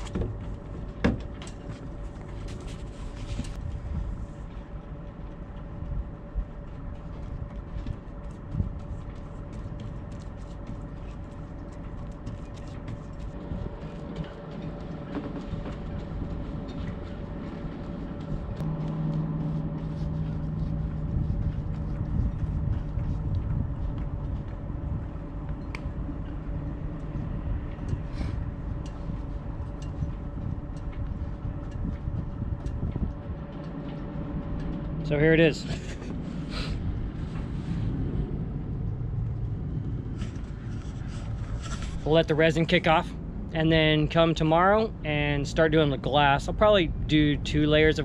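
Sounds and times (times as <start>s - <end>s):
deeper louder hum: 0.0s - 48.0s
mechanical drone: 0.0s - 48.0s.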